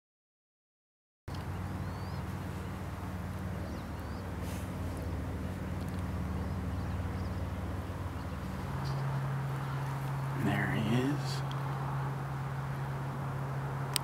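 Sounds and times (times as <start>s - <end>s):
low mechanical drone: 1.3s - 14.0s.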